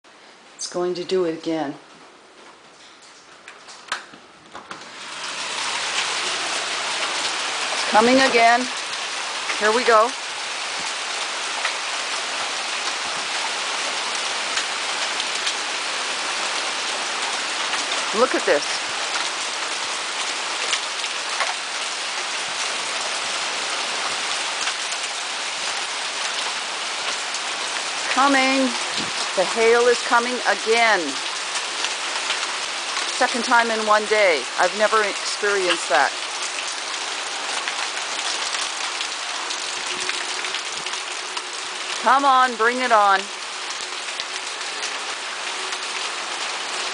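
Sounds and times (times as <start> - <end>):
heavy rain pouring: 2.1 - 46.9.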